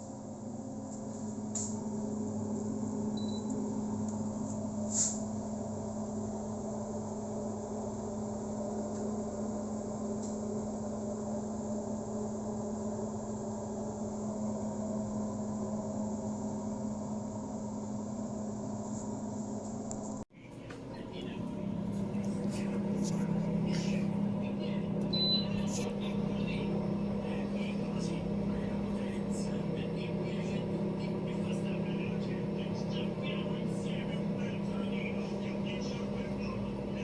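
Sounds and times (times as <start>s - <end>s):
air fryer motor and fan hum: 0.0s - 37.0s.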